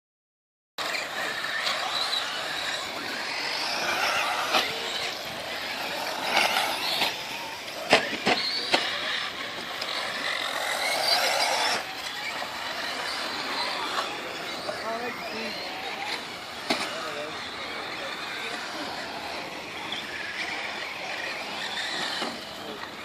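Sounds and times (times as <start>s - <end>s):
electric motor whining: 0.8s - 23.0s.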